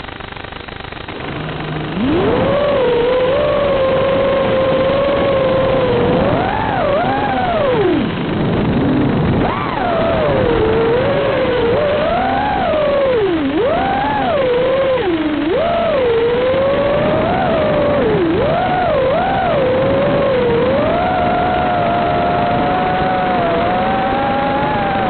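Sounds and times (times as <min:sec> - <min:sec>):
electric motors whining: 0:00.6 - 0:25.0.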